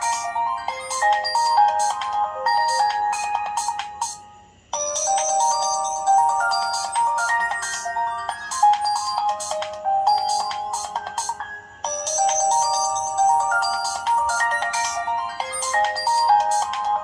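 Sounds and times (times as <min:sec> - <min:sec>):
phone ringtone melody over a beat: 0:00.0 - 0:17.0.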